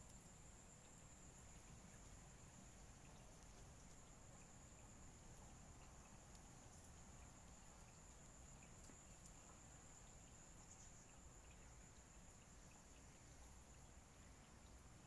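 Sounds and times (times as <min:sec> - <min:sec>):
crickets trilling: 0:00.0 - 0:15.0
faint ticks: 0:00.0 - 0:15.0.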